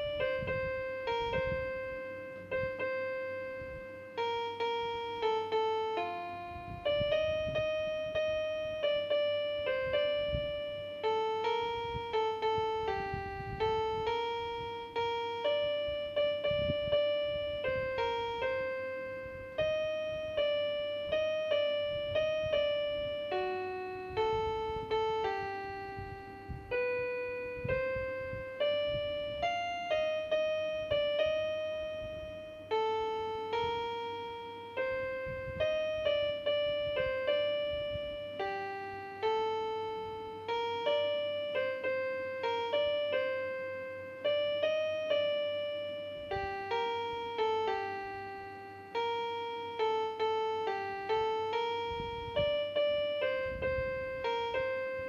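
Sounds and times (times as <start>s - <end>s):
electronic keyboard piano melody: 0.0s - 55.0s.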